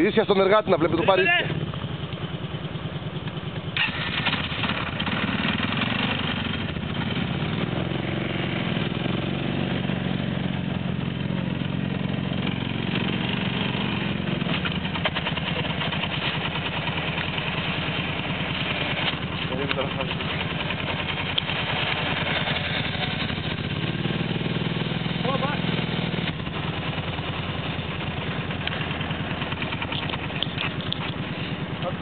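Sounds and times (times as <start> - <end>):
quad bike engine idling: 0.0 - 32.0.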